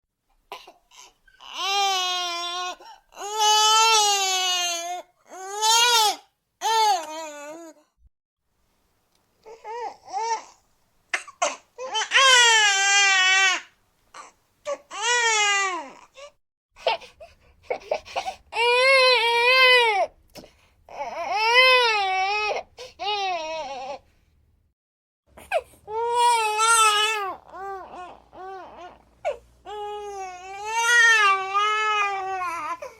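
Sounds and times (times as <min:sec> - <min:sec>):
baby crying: 0:00.5 - 0:07.8, 0:09.5 - 0:10.6, 0:11.2 - 0:17.0, 0:17.7 - 0:20.1, 0:20.9 - 0:24.0, 0:25.4 - 0:32.9.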